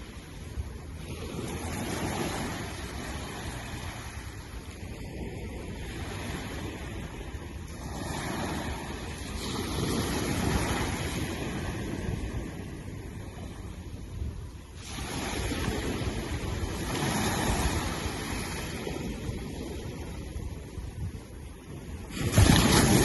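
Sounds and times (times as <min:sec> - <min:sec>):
sea waves breaking: 0:00.0 - 0:23.0.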